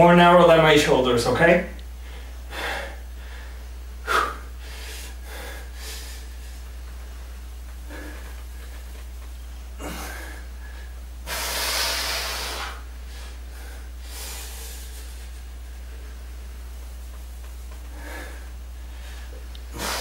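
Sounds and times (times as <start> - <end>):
steady low hum: 0.0 - 20.0
man breathing heavily: 1.9 - 20.0.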